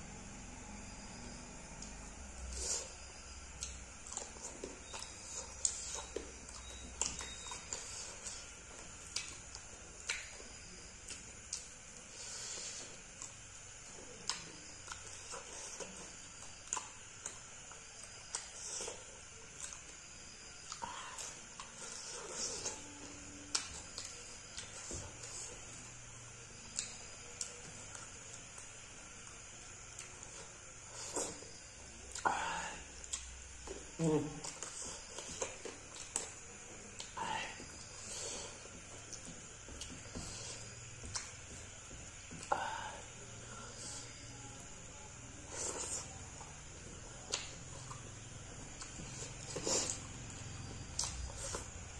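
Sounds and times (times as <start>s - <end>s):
person chewing: 1.7s - 43.9s, 45.2s - 51.9s.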